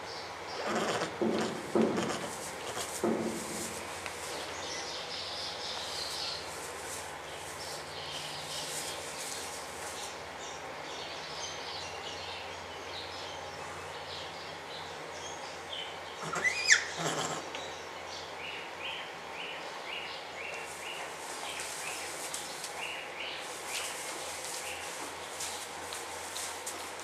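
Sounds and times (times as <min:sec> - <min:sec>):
low background hum: 0:00.0 - 0:27.0.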